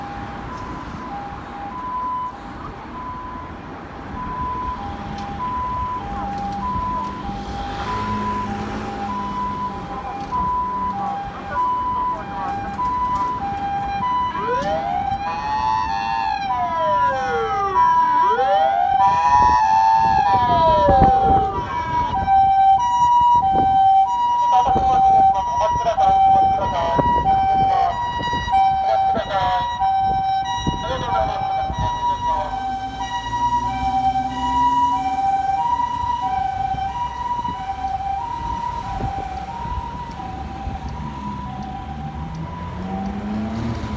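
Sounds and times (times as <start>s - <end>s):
siren wail: 0.0s - 43.9s
two-note hi-lo siren: 4.2s - 43.8s.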